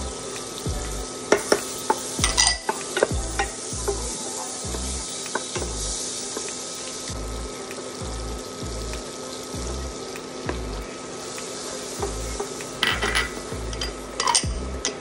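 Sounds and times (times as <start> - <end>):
butter sizzling: 0.0 - 15.0.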